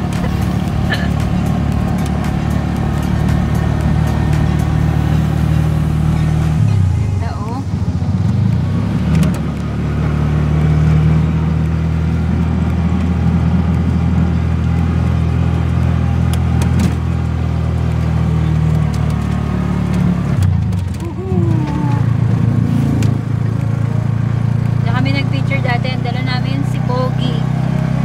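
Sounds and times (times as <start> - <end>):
three-wheeler engine droning: 0.0 - 28.0.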